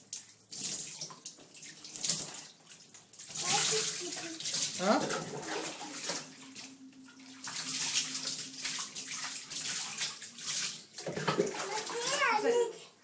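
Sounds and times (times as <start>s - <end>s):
water splashing in bathtub: 0.0s - 12.8s.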